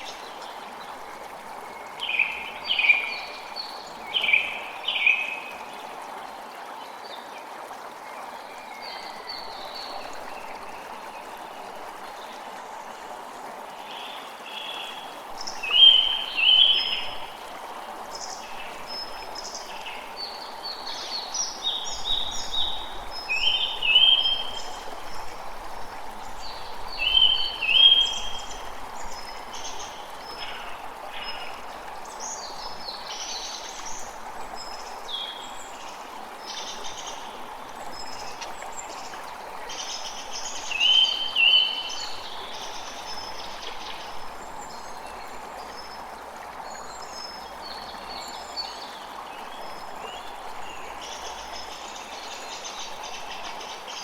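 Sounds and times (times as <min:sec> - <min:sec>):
creek running: 0:00.0 - 0:54.0.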